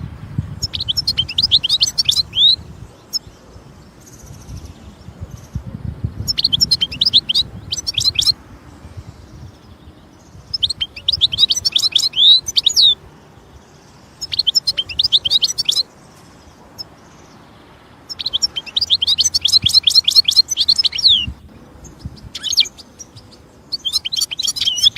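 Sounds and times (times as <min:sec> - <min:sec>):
goldfinch twittering song: 0:00.5 - 0:24.9.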